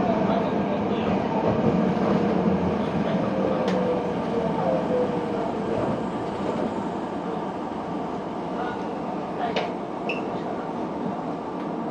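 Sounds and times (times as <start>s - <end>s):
train running on rails: 0.0s - 11.9s.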